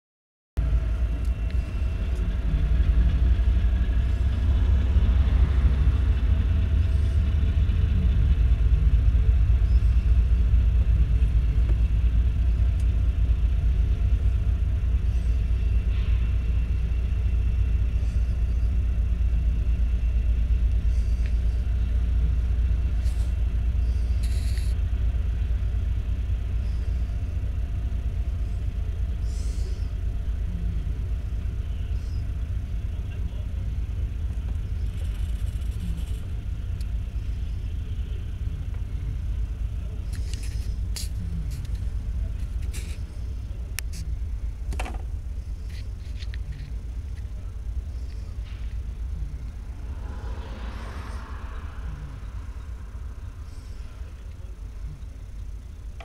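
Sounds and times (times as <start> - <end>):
freight train wheels rumbling: 0.6 - 56.0.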